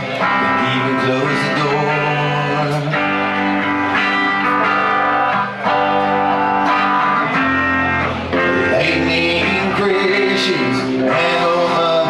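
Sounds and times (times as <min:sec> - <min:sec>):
guitar chords ringing: 0:00.0 - 0:12.0
rock band playing live: 0:00.0 - 0:12.0.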